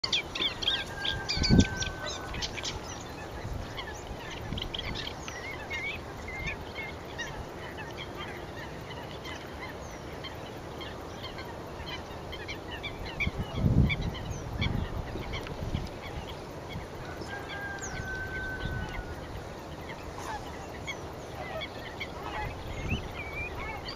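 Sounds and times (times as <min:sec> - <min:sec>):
water birds calling: 0:00.0 - 0:23.9.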